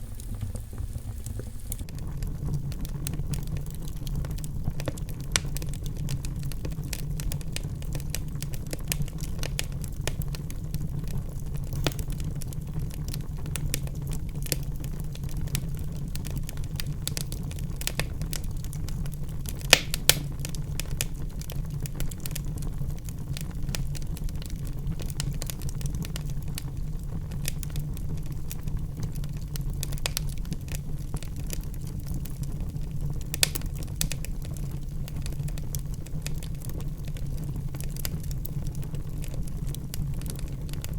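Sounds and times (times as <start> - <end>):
sharp fire pops: 0.0 - 26.7, 27.3 - 40.9
wood fire crackling: 0.0 - 40.9.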